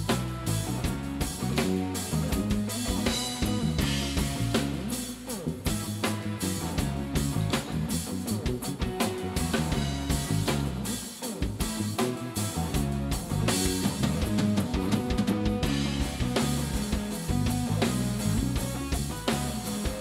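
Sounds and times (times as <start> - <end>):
drum kit: 0.0 - 20.0
electric guitars: 0.0 - 20.0.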